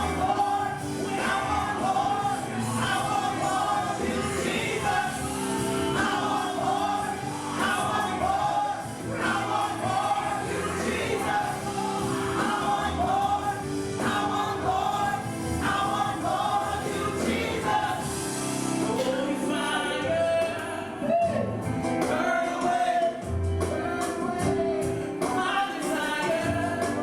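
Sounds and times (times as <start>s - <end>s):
choir singing gospel music: 0.0s - 27.0s
instrumental accompaniment: 0.0s - 27.0s.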